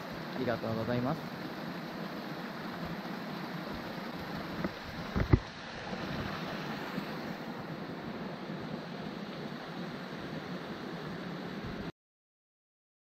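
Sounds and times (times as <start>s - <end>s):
water rushing down stone channel: 0.0s - 11.9s.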